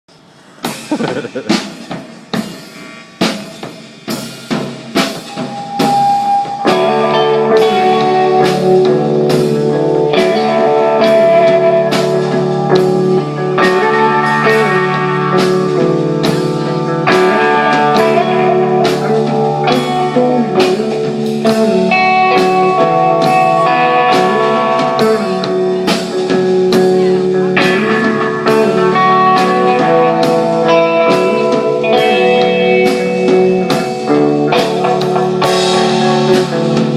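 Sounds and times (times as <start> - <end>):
drum kit beat: 0.6 - 36.9
bass guitar: 4.1 - 36.9
electric guitar chords: 4.1 - 36.9.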